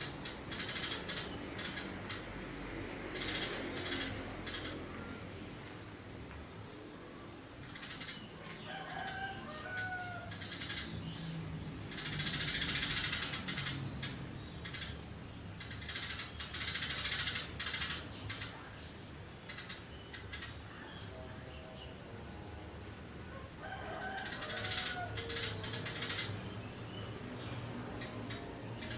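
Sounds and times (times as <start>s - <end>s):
sparrow chirping and chattering: 0.0s - 5.7s, 6.6s - 22.6s, 23.5s - 28.9s.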